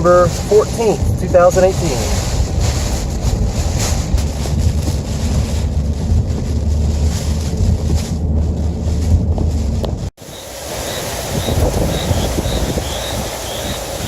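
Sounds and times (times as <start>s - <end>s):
strong wind buffeting car: 0.0s - 14.0s.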